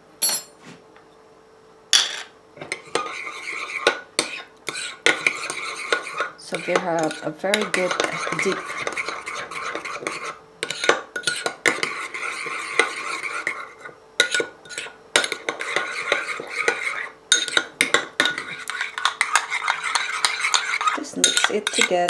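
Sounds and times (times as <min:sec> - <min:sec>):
spoon scraping and clinking bowl: 0:02.0 - 0:22.0.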